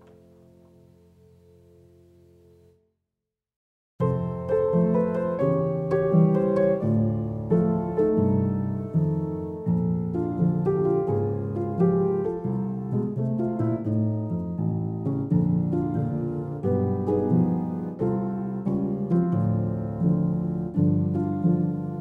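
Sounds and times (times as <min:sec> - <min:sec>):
piano music: 0:00.0 - 0:02.6, 0:04.0 - 0:22.0.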